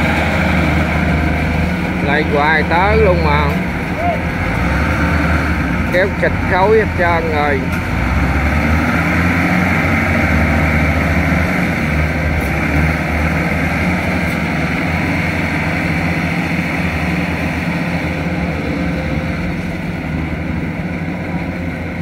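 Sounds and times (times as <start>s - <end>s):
harvester diesel engines droning: 0.0s - 22.0s.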